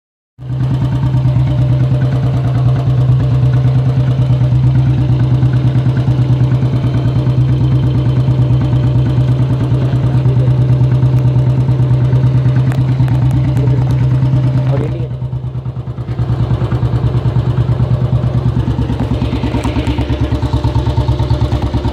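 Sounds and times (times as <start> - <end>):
motorcycle engine idling: 0.4 - 21.9.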